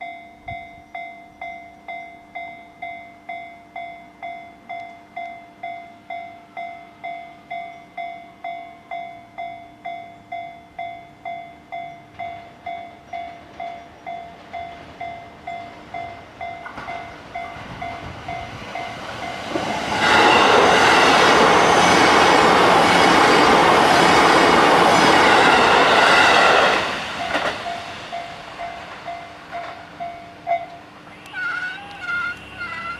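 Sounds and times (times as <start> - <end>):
level-crossing alarm bell ringing: 0.0 - 23.6, 24.6 - 32.9
electric train passing: 0.0 - 32.9.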